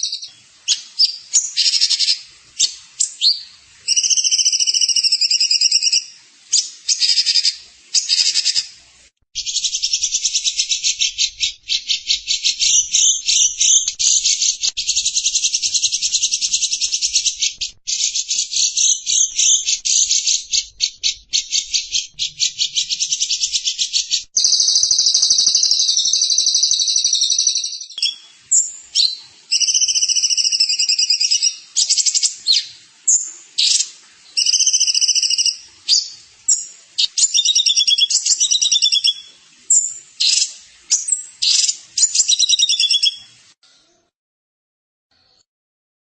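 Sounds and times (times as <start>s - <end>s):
songbird singing high trills: 0.0s - 8.7s, 9.4s - 43.3s.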